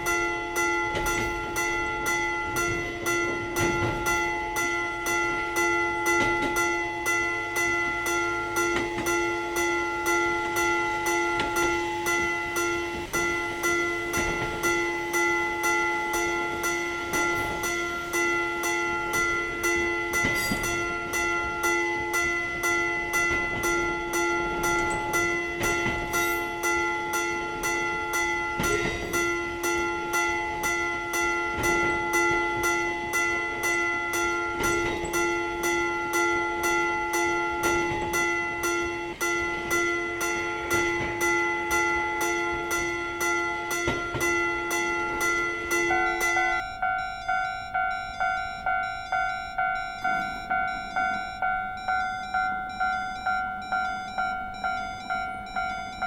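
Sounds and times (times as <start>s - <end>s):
level crossing bell clanging: 0.0s - 56.0s.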